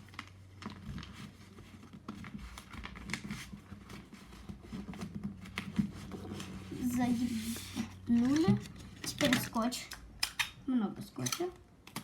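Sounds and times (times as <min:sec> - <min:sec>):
paper rustling and crinkling: 0:00.0 - 0:09.7.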